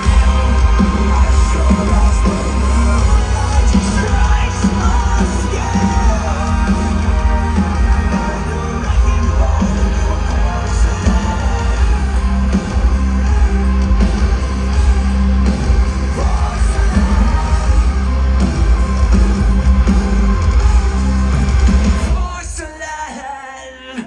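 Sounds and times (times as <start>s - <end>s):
metal band playing loudly: 0.0s - 23.0s
yelled vocals: 0.0s - 24.0s.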